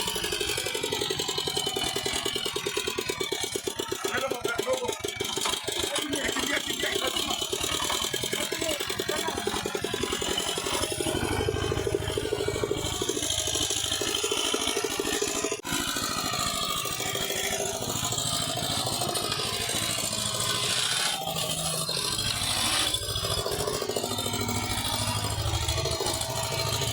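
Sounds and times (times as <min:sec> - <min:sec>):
tractor engine firing pulses: 0:00.0 - 0:26.9.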